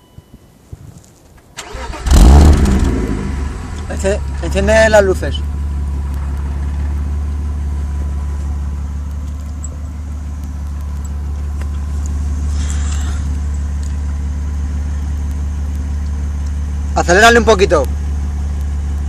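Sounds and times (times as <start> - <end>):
car exhaust idling drone: 1.7 - 19.0.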